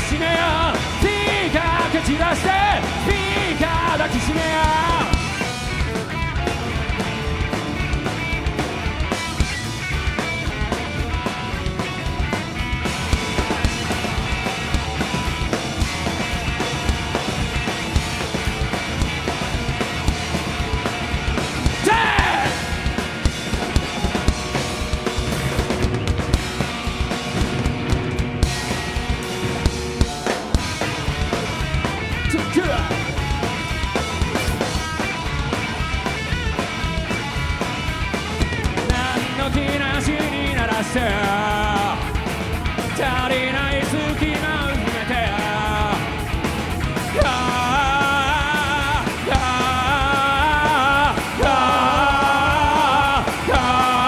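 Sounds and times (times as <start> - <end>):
driving drum kit: 0.0 - 54.0
rock band playing: 0.0 - 54.0.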